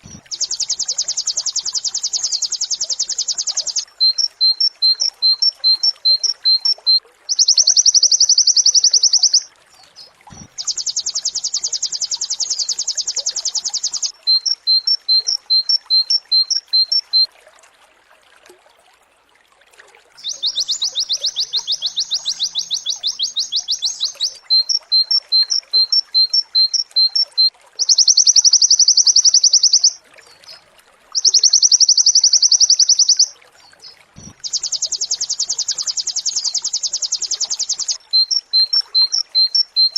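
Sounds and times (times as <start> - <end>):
bird song with rapid trills: 0.0 - 17.3, 20.2 - 30.6, 31.2 - 39.9.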